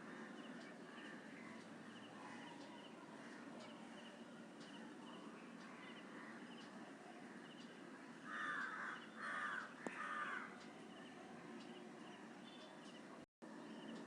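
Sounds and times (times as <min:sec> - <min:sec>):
harsh noisy bird calls: 0:00.0 - 0:13.2.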